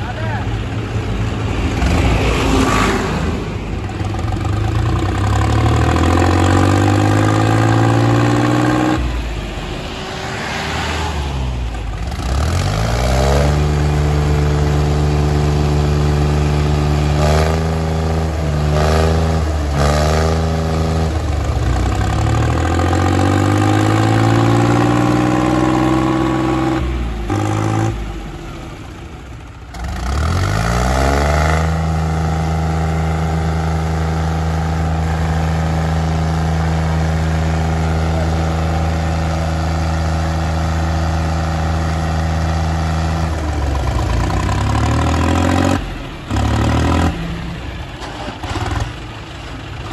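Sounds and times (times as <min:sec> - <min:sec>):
diesel tractors under heavy load: 0:00.0 - 0:49.9.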